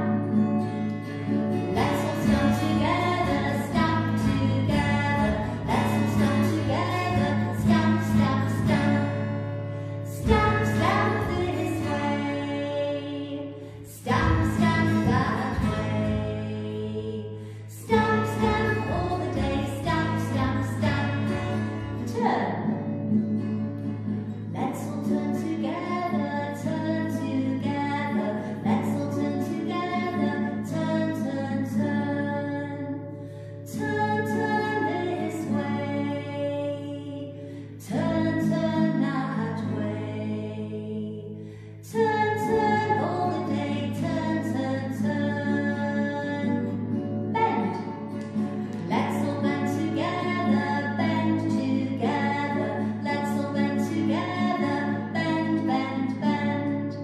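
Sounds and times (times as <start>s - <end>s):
strummed acoustic guitar: 0.0s - 57.0s
woman singing: 0.9s - 22.9s, 24.4s - 57.0s.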